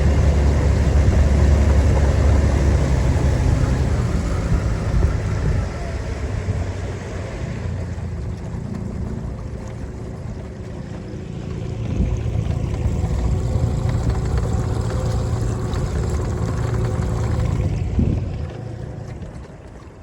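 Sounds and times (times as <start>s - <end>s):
wind noise: 0.0s - 9.9s, 11.6s - 19.7s
boat motor running: 0.0s - 20.0s
water noise: 0.0s - 20.0s.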